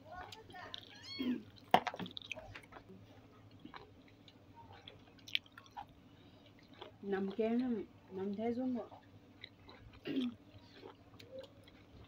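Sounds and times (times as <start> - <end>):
chewing and mouth sounds: 0.1 - 12.0.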